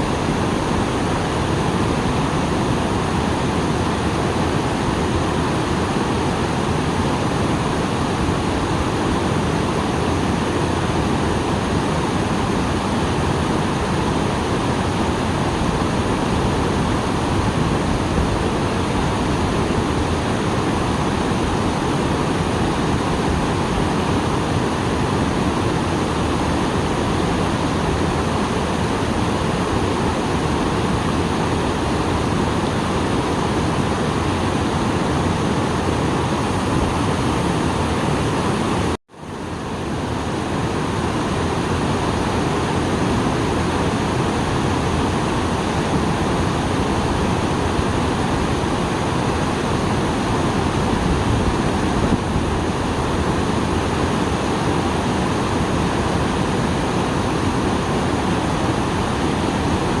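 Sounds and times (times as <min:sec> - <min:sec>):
waterfall rushing: 0:00.0 - 1:00.0.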